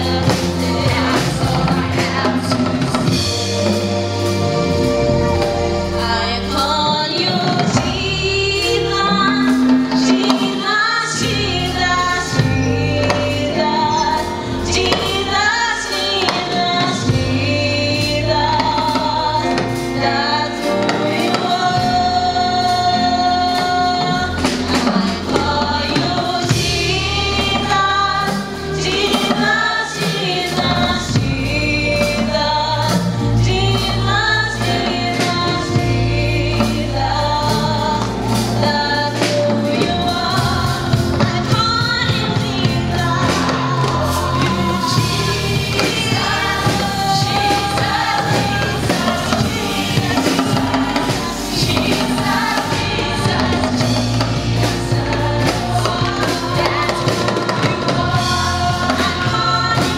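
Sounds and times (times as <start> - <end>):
drum kit beat: 0.0 - 59.9
live band: 0.0 - 59.9
women's choir singing gospel: 0.0 - 59.9.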